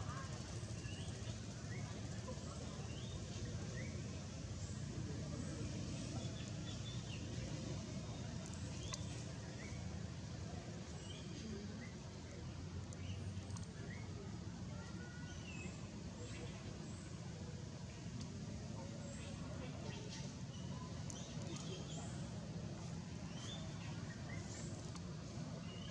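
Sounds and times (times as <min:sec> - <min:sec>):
low steady rumble: 0:00.0 - 0:25.9.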